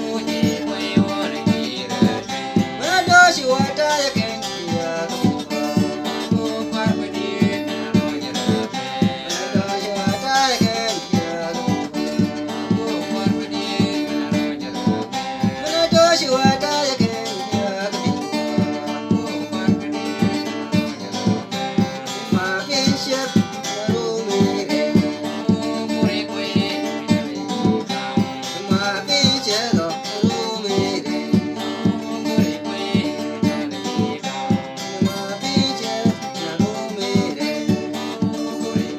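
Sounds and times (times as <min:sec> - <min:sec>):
person singing: 0:00.0 - 0:38.9
strummed acoustic guitar: 0:00.0 - 0:38.9.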